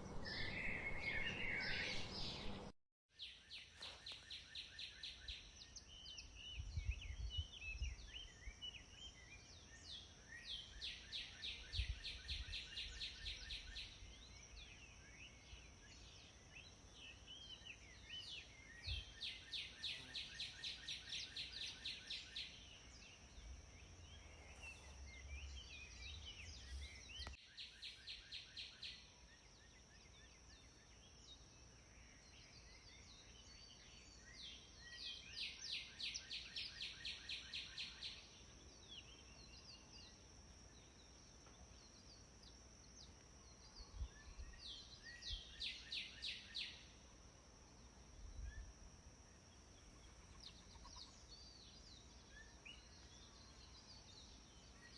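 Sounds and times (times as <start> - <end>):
bird chirping: 0.0 - 47.0, 47.7 - 54.9.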